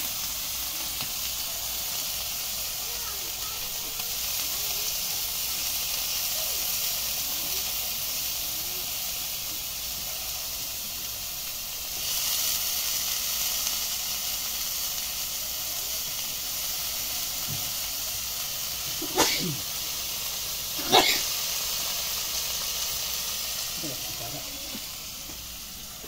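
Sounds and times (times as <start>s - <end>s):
grubs sizzling in hot oil: 0.0s - 26.0s.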